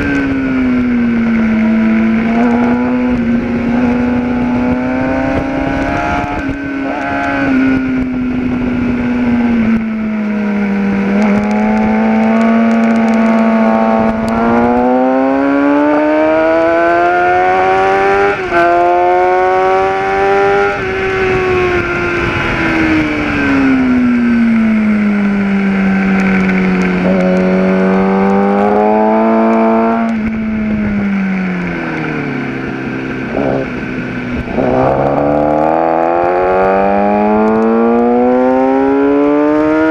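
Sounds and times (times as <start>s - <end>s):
wind rush: 0.0s - 38.6s
motorcycle engine revving: 0.0s - 39.9s.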